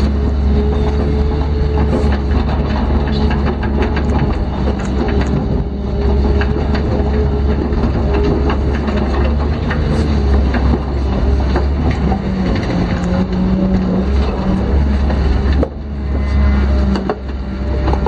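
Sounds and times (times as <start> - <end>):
diesel engine running: 0.0 - 18.0
hydraulic whine: 0.0 - 18.0
machine clanks and rattles: 0.0 - 18.0.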